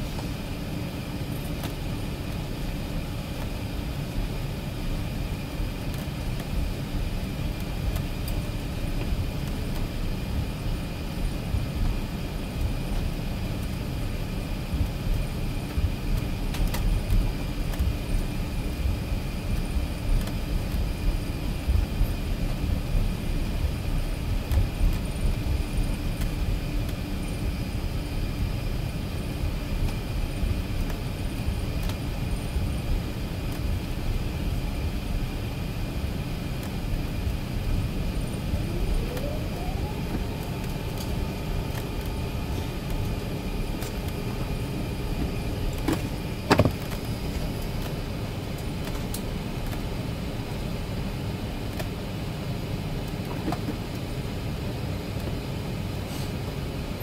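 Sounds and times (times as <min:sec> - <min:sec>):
faint high whine: 0:00.0 - 0:53.4
low rumble of aircraft taxiing: 0:00.0 - 0:57.0.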